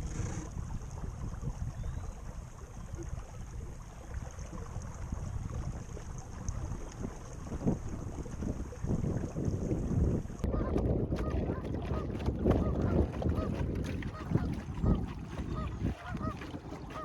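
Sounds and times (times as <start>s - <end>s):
water lapping against hull: 0.0s - 17.0s
wind buffeting microphone: 0.0s - 17.0s.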